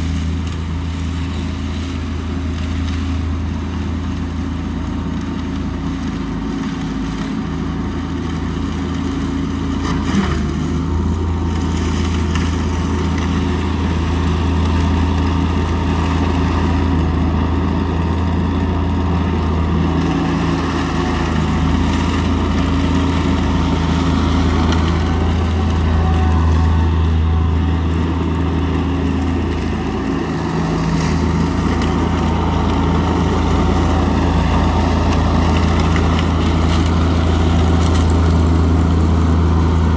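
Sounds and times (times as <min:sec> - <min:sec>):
ride-on mower engine hum: 0:00.0 - 0:39.9.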